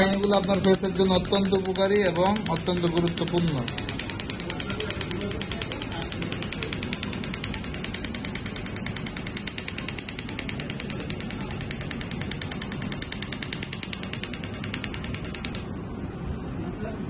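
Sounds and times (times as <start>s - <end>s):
laser snapping clicks: 0.0s - 15.7s
low machine hum: 0.0s - 17.0s.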